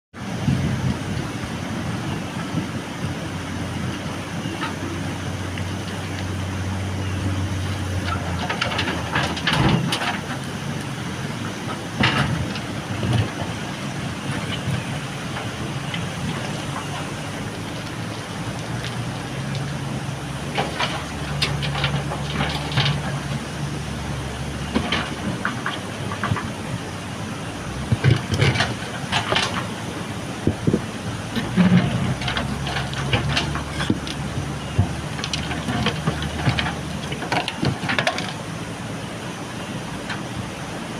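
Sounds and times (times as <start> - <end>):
diesel engine running under load: 0.2 - 40.9.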